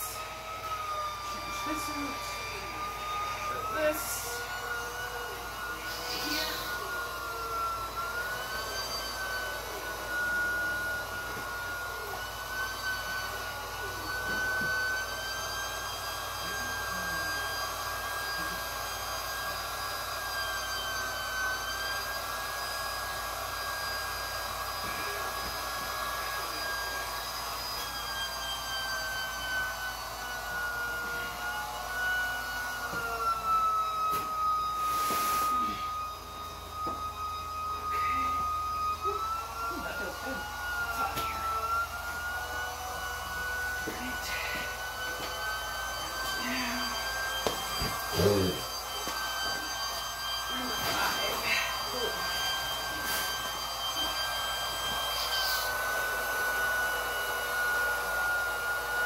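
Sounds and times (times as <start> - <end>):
electric air pump whining: 0.0 - 59.0.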